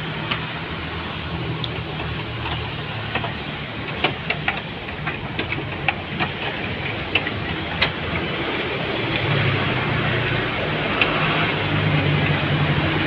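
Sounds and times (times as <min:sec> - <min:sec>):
car engine running: 0:00.0 - 0:13.0
hands clicking on hoses and wiring: 0:01.6 - 0:13.0.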